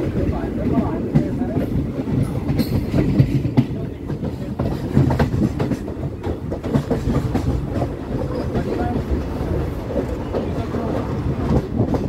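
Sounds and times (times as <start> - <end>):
train coaches rumbling: 0.0 - 12.0
wheels clacking over rails: 0.0 - 12.0.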